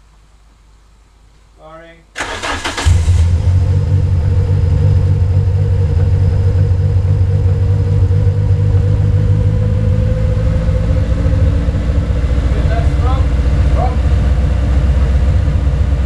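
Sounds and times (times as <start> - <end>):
car engine idling: 2.2 - 16.0.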